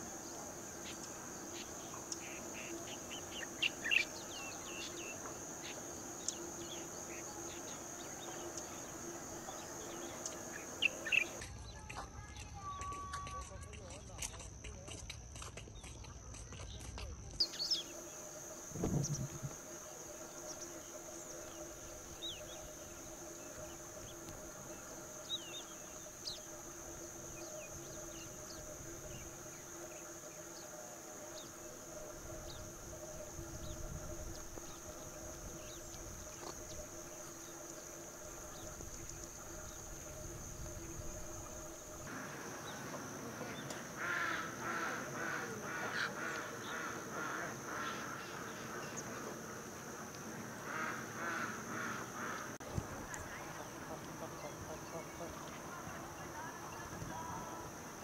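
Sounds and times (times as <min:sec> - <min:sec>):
high insect drone: 0:00.0 - 0:14.9, 0:16.0 - 0:58.0.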